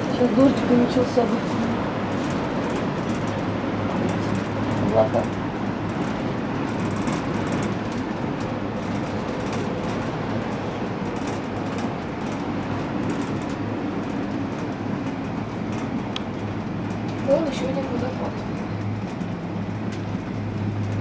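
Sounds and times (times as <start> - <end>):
cable car running: 0.0 - 21.0.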